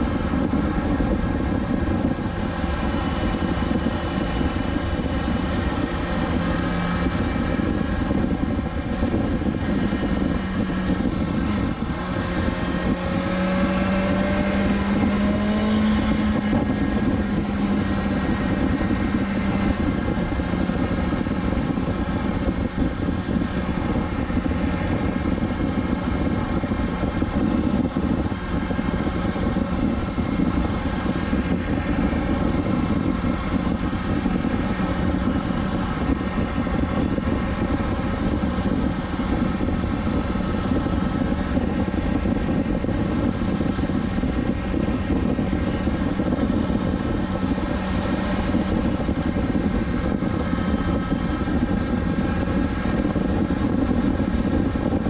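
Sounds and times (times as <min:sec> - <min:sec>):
motorcycle engine cruising: 0:00.0 - 0:55.0
wind rushing: 0:00.0 - 0:55.0.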